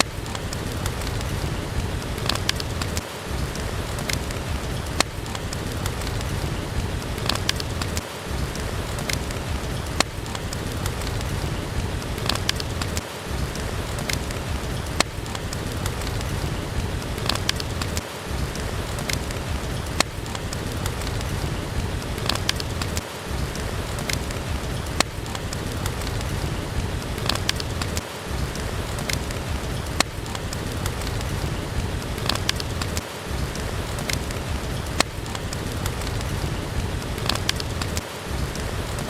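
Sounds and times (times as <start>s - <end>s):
steady rain: 0.0s - 39.0s
wood fire popping: 0.0s - 39.0s.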